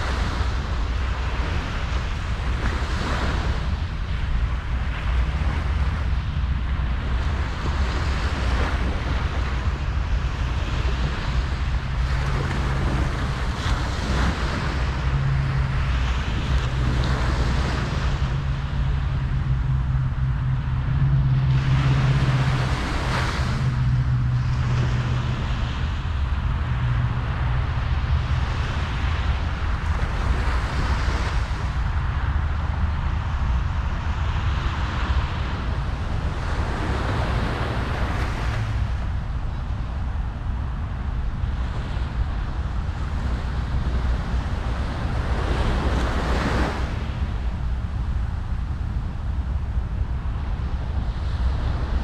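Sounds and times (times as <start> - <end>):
ocean surf washing onto beach: 0.0 - 52.0
steady low hum: 0.0 - 52.0
wind rumble on microphone: 0.0 - 52.0.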